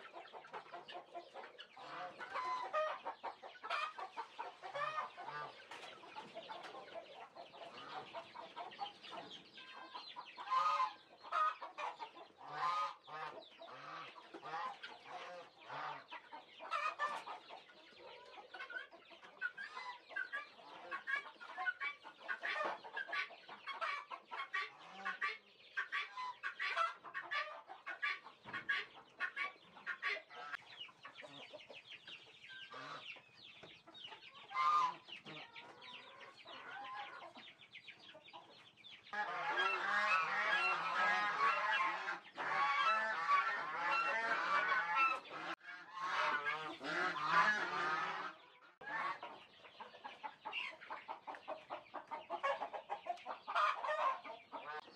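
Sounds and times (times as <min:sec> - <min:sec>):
poultry clucking and calling: 0:00.0 - 0:54.9.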